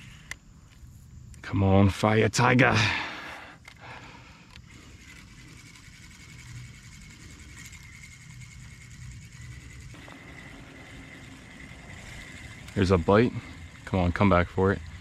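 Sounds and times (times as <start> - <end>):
fishing reel whirring: 2.7 - 15.0.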